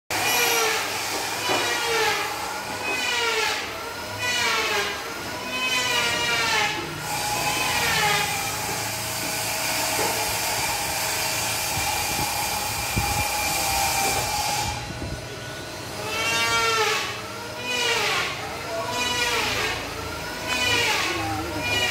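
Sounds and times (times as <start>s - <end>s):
machine hum: 0.1s - 21.9s.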